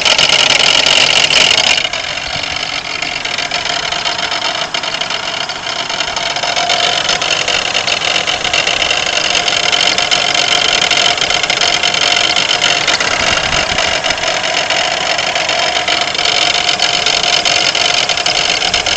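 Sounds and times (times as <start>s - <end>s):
car engine running with grinding rattle: 0.0s - 18.9s.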